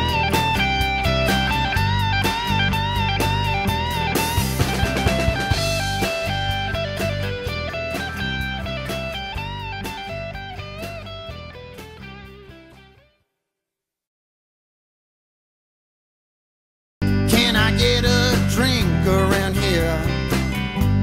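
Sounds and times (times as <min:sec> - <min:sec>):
bass and drums: 0:00.0 - 0:13.0, 0:17.0 - 0:21.0
electric guitar lead melody: 0:00.0 - 0:13.2, 0:17.0 - 0:21.0.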